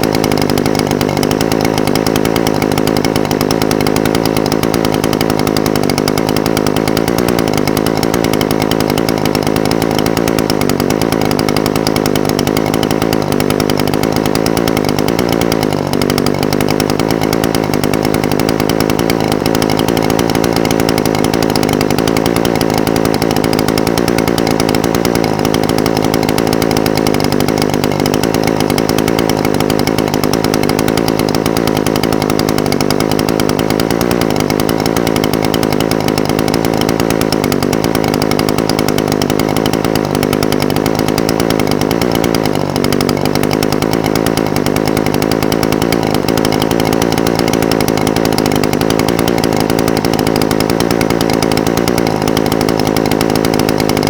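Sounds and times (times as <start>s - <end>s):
brush cutter engine idling: 0.0s - 54.0s.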